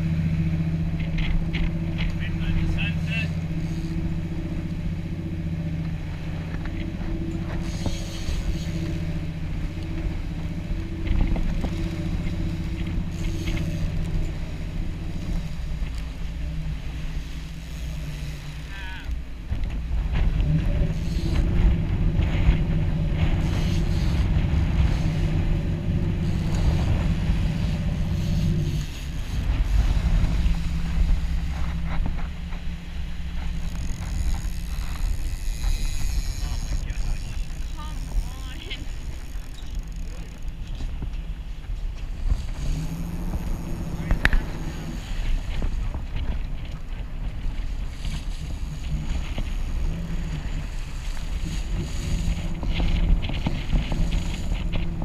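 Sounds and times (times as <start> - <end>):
boat engines running: 0.0 - 55.0
boat wake noise: 0.0 - 55.0
wind: 0.0 - 55.0.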